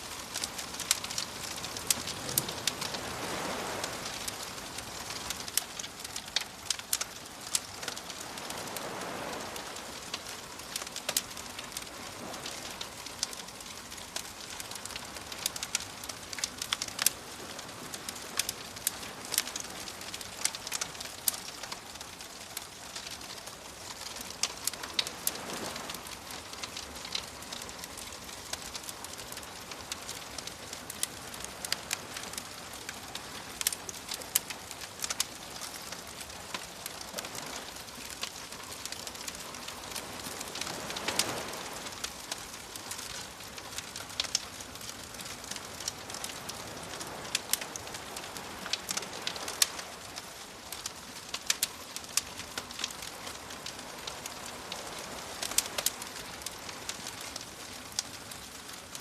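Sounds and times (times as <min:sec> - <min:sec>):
campfire crackling and popping: 0:00.0 - 0:59.0
ocean waves washing in: 0:00.0 - 0:59.0.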